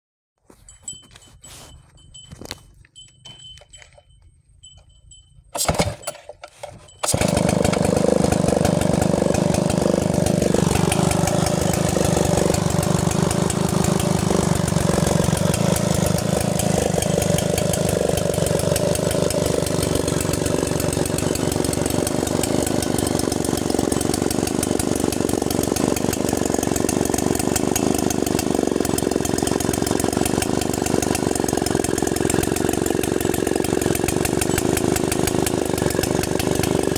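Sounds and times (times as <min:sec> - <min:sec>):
chainsaw starting and running: 0:05.6 - 0:36.9.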